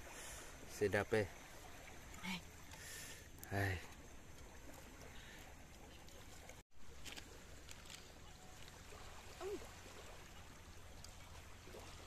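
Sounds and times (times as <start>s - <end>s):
small waves lapping at shore: 0.0s - 12.0s.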